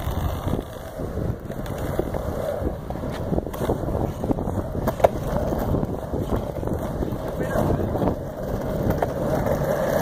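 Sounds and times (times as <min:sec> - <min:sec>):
skateboard wheels rolling on concrete: 0:00.0 - 0:10.0
wind buffeting microphone: 0:00.0 - 0:10.0.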